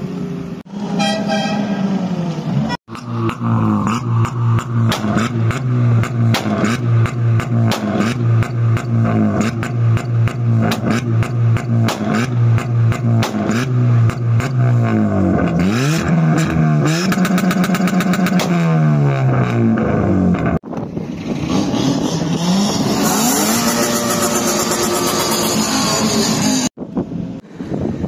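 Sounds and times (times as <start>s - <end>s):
exhaust banging: 0.7s - 26.7s
car engine at rev limiter: 1.8s - 26.8s.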